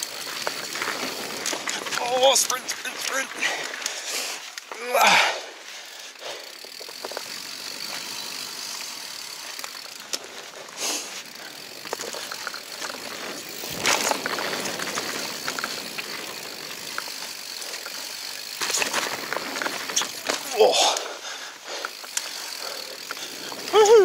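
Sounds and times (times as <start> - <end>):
bike clicks and rattles: 0.0 - 24.0
bike jolt: 0.0 - 24.0
bike tyres on dirt: 0.0 - 24.0.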